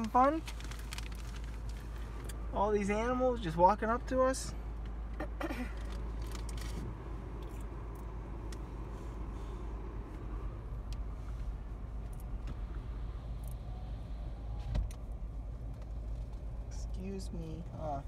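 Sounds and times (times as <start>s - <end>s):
car engine rumble: 0.0s - 18.0s.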